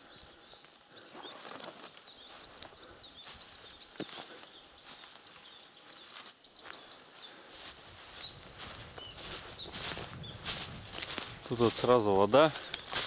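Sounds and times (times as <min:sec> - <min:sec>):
footsteps in dry grass: 0:00.0 - 0:13.0
songbird twittering: 0:00.0 - 0:13.0.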